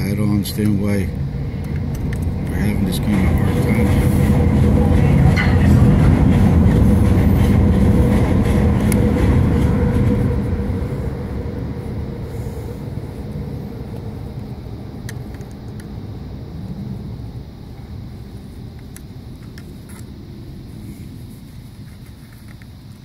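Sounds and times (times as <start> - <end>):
loud low rumble: 0.0 - 21.7.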